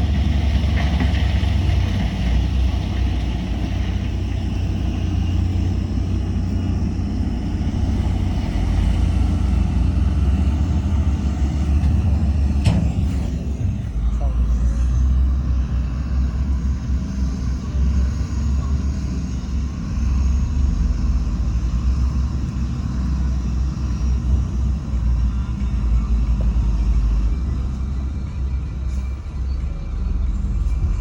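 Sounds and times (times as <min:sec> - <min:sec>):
diesel engine low rumble: 0:00.0 - 0:31.0.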